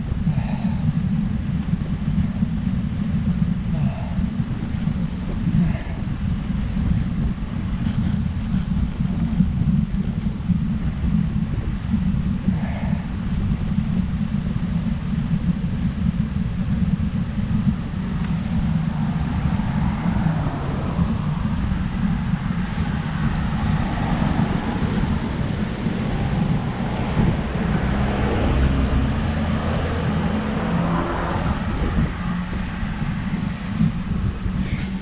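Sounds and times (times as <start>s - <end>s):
bike road noise: 0.0s - 35.0s
wind rumbling on microphone: 0.0s - 35.0s.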